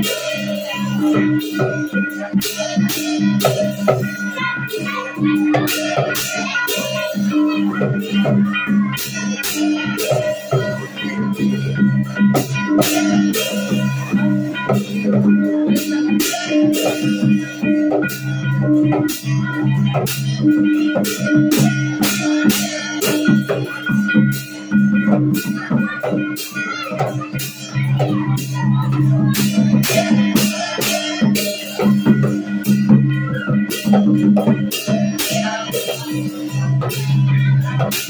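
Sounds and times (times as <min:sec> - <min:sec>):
small drum beats: 0:00.0 - 0:38.0.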